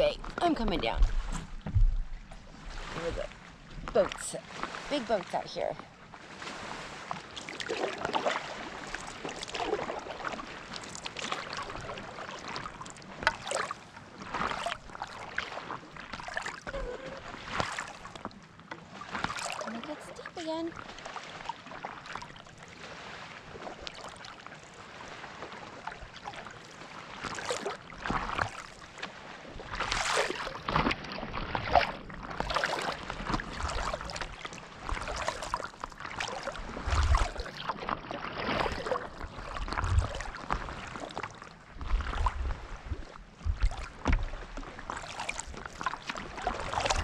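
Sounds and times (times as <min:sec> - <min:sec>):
paddle strokes splashing in water: 0:00.0 - 0:47.0
water lapping against board: 0:00.0 - 0:47.0.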